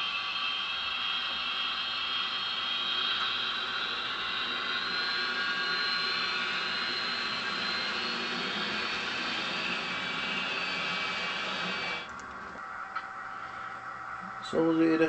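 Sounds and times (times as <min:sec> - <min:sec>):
model train motors whirring: 0:00.0 - 0:13.0
high whining tones: 0:00.0 - 0:15.0.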